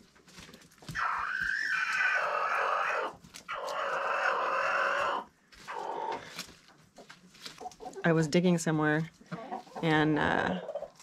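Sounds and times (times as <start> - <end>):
chickens growling: 0.8 - 8.0, 9.3 - 11.0.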